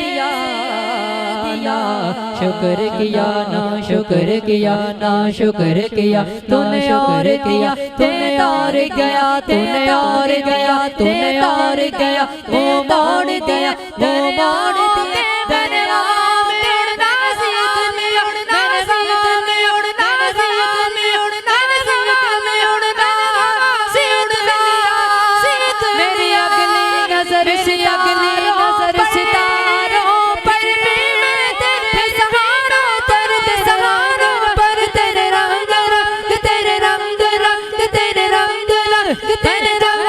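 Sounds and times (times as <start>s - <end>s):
person singing ornamented melody: 0.0s - 40.0s.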